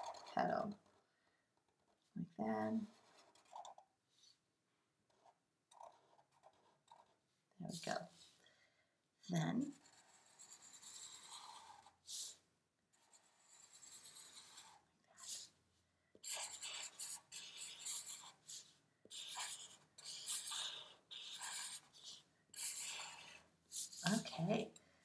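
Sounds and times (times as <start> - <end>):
marker scratching on paper: 0.0 - 1.0, 2.6 - 4.4, 5.1 - 8.4, 9.6 - 15.6, 16.2 - 24.7.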